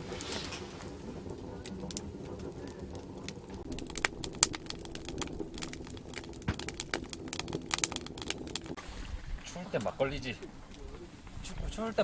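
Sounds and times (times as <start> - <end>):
firewood crackling and popping: 0.0 - 12.0
low steady rumble: 0.0 - 12.0.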